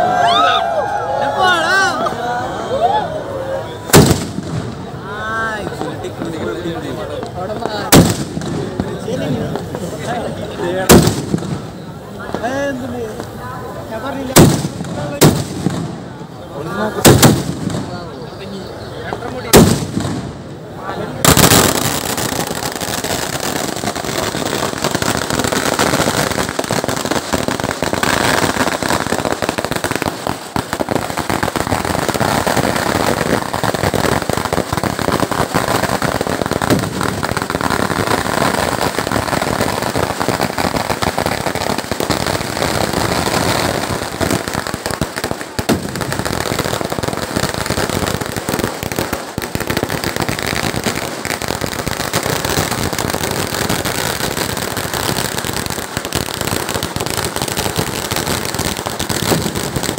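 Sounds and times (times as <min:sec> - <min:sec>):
firecrackers barrage: 0:00.0 - 0:59.9.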